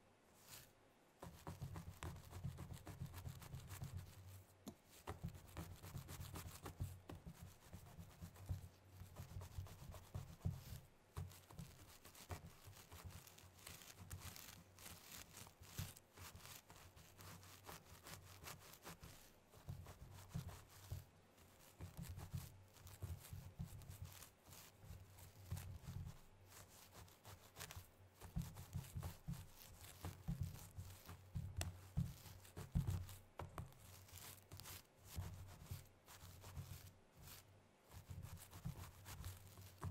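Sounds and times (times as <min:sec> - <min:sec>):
fingernails scratching through hair: 0:00.4 - 0:39.9.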